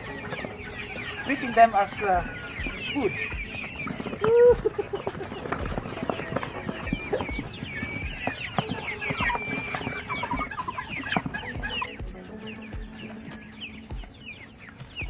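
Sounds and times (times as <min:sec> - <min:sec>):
young chickens clucking: 0:00.0 - 0:15.0.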